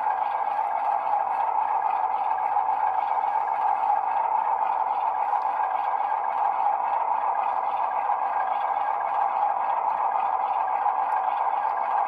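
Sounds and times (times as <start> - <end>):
diesel engine sound from small speaker: 0.0 - 12.0.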